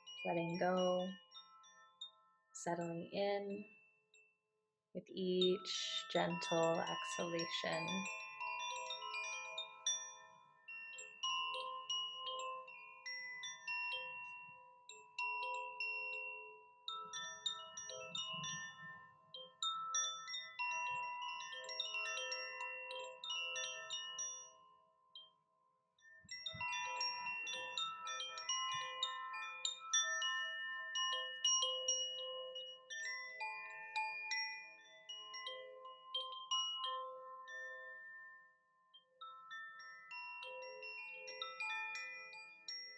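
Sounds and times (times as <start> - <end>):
wind chimes ringing: 0.0 - 4.2, 5.2 - 25.4, 26.0 - 42.9.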